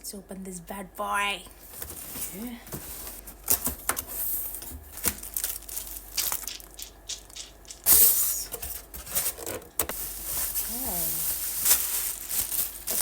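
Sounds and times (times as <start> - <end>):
gift packaging crinkling and tearing: 1.8 - 13.0.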